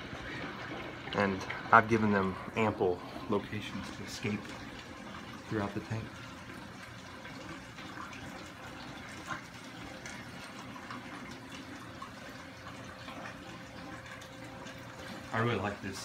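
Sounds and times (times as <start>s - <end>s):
water running through drain: 0.0s - 16.0s.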